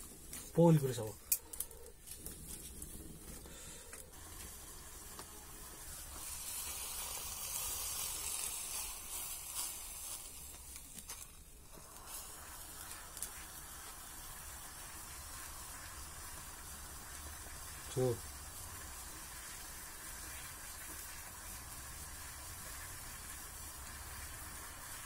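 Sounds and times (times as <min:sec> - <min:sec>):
faint fire crackles: 0:00.0 - 0:25.0
liquid sizzling and hissing: 0:00.0 - 0:25.0.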